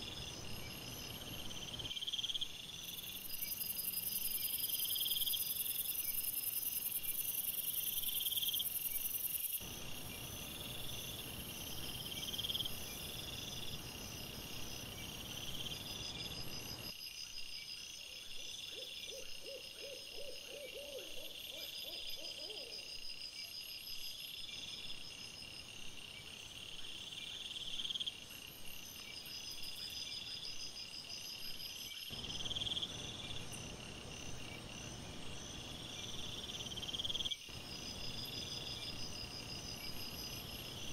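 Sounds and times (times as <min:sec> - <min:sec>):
background hiss: 0:00.0 - 0:40.9
crickets chirping: 0:00.0 - 0:40.9.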